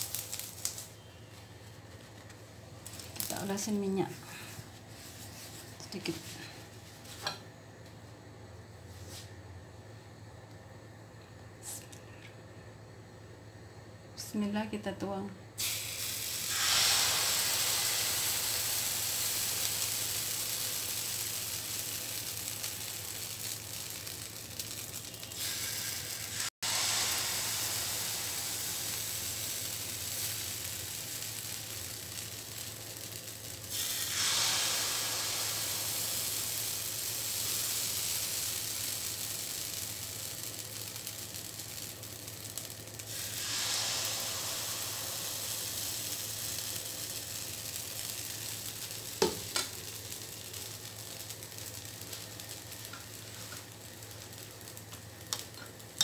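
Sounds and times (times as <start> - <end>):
pancake batter sizzling: 0.0 - 7.4, 15.6 - 56.0.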